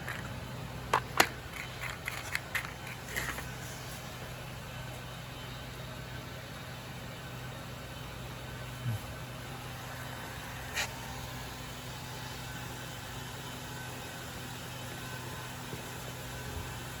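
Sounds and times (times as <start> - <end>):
sorting machine humming: 0.0 - 17.0.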